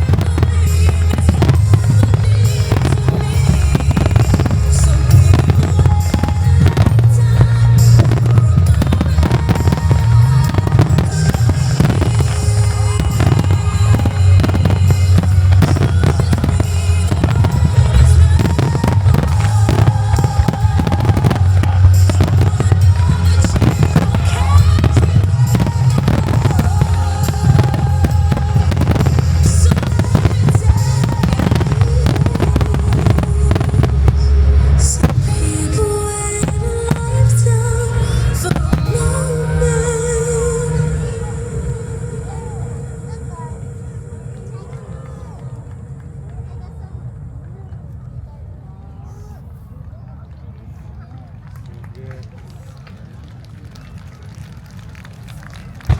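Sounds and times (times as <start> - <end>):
music playing: 0.0 - 46.6
fireworks booming and crackling: 0.0 - 47.4.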